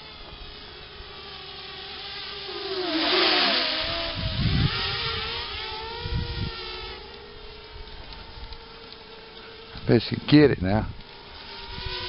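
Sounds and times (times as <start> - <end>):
quadcopter propellers whining: 0.0 - 12.0.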